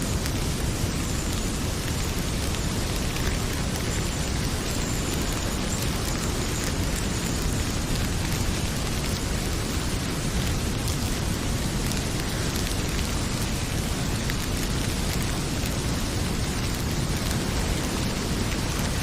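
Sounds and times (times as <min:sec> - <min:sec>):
heavy rain pouring: 0:00.0 - 0:19.0
wood fire crackling: 0:00.0 - 0:19.0.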